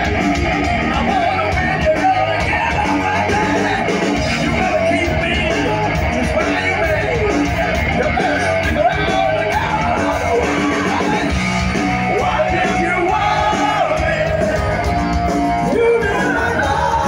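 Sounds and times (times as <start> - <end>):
live hard rock band: 0.0 - 17.0
man singing long notes: 0.8 - 11.4, 12.1 - 14.8, 15.6 - 17.0.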